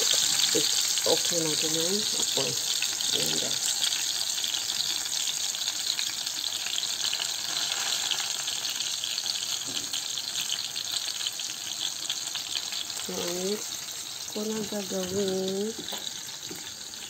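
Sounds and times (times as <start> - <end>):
garlic and onion sizzling in oil: 0.0 - 17.0.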